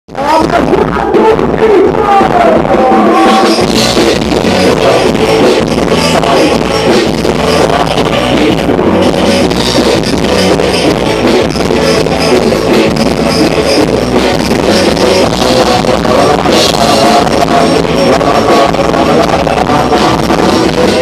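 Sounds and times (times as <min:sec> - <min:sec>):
drums and bass: 0:00.1 - 0:21.0
loud band music: 0:00.1 - 0:21.0.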